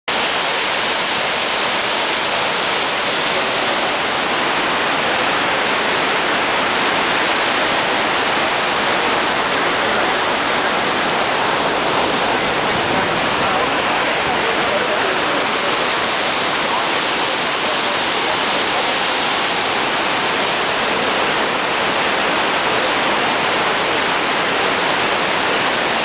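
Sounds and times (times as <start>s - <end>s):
waterfall rushing: 0.1s - 26.0s.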